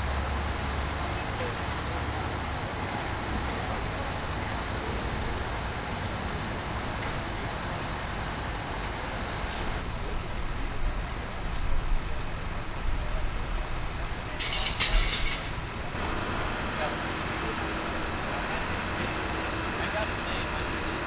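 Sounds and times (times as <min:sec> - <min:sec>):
traffic engine rumble: 0:00.0 - 0:21.0.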